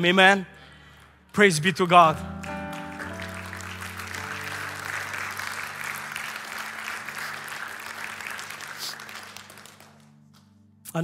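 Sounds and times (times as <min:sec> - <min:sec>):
congregation applauding: 0:00.8 - 0:10.5.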